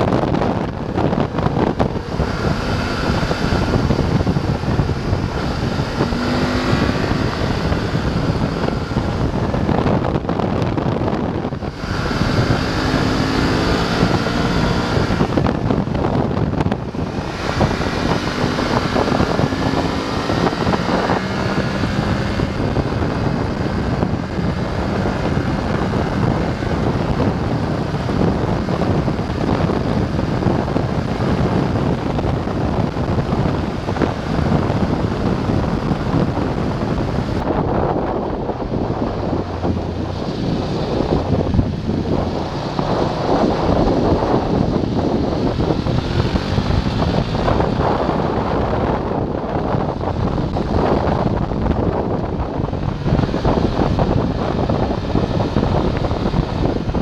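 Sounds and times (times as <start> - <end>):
motorcycle engine revving: 0.0 - 57.0
wind rushing over microphone: 0.0 - 57.0.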